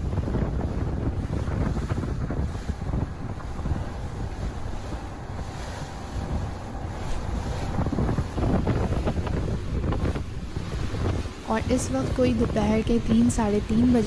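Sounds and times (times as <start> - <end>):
choppy water rushing: 0.0 - 14.0
wind buffeting microphone: 0.0 - 14.0.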